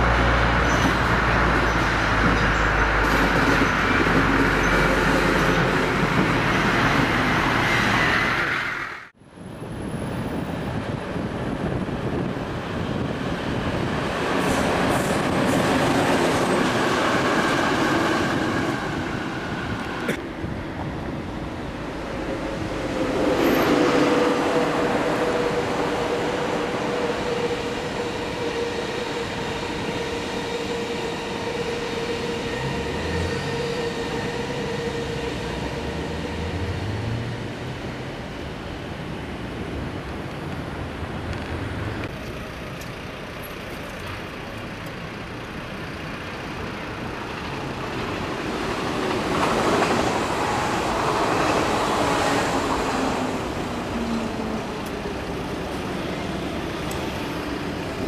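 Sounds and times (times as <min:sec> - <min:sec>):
high-speed train electric whine: 0:00.0 - 0:43.6, 0:44.2 - 0:58.0
train passing with wheel-on-rail noise: 0:00.0 - 0:58.0.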